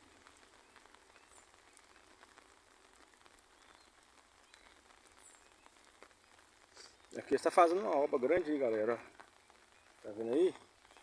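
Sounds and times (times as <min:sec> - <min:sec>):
faint light rain: 0:00.0 - 0:11.0.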